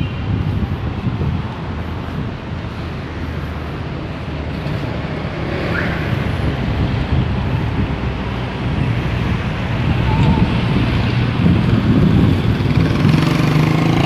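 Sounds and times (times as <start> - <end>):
road traffic passing: 0.0 - 14.0
wind on microphone: 0.0 - 14.0.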